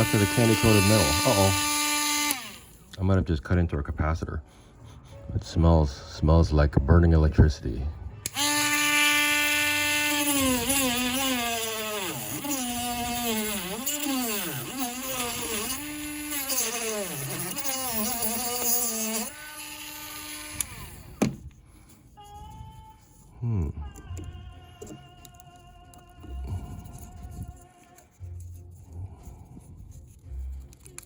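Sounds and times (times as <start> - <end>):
rotary tool whine cutting plastic: 0.0 - 3.0, 8.2 - 31.0.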